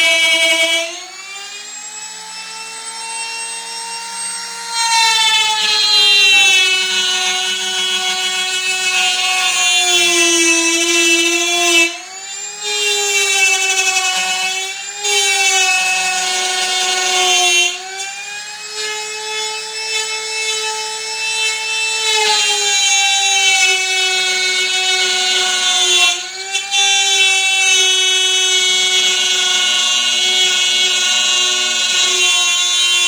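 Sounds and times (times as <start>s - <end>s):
power tool cutting wood: 0.0s - 33.0s.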